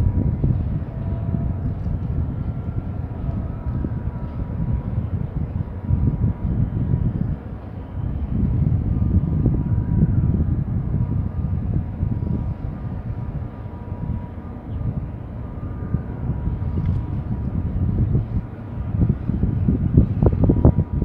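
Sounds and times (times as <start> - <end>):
ship engine rumble: 0.0 - 21.0
wind buffeting microphone: 0.0 - 21.0.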